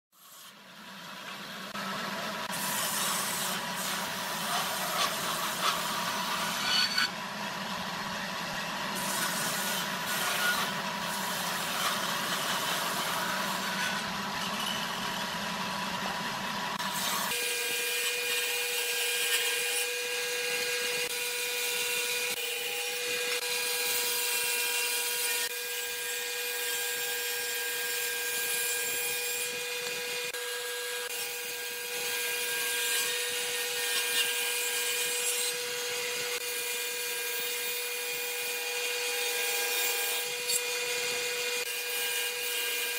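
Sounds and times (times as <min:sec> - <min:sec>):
table saw cutting wood: 0:00.2 - 0:42.9.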